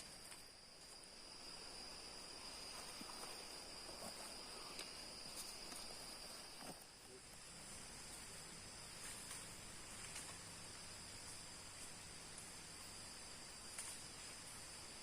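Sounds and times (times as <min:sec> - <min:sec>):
forest insects trilling: 0:00.0 - 0:15.0.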